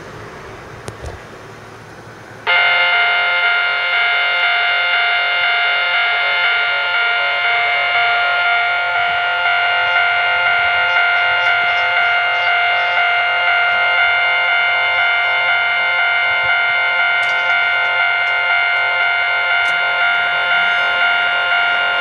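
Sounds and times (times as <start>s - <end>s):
level crossing warning bell: 2.5s - 22.0s.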